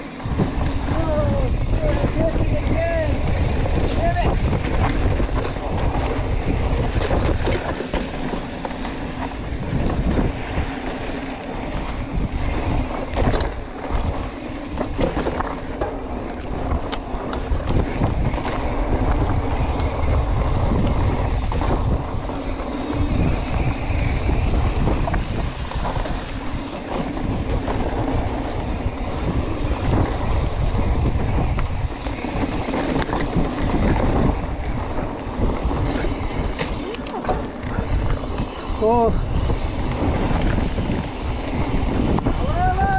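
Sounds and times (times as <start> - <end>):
bike rattling over bumps: 0.0 - 42.9
tyres rolling over dirt: 0.0 - 42.9
wind on microphone: 0.0 - 42.9.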